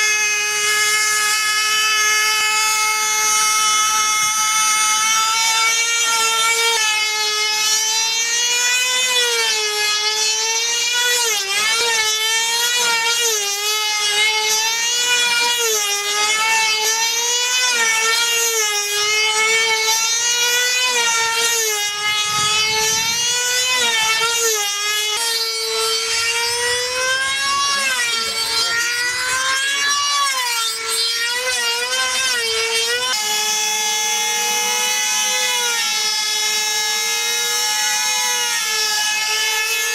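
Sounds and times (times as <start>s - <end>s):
model engine high whine: 0.0s - 36.1s.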